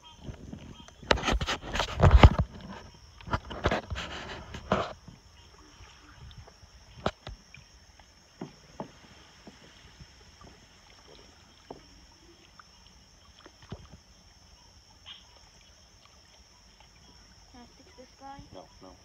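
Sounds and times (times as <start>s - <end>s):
insect chorus: 0.0s - 19.0s
wading through shallow water: 0.0s - 19.0s.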